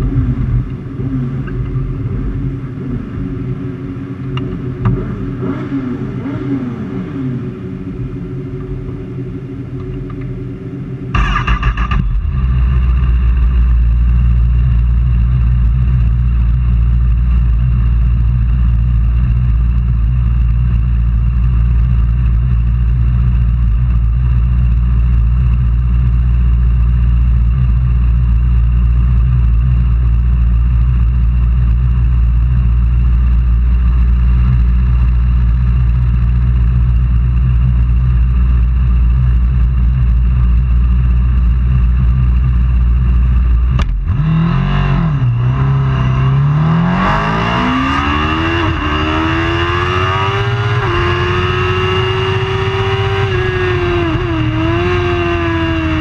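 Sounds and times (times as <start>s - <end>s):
steady engine drone: 0.0s - 56.0s.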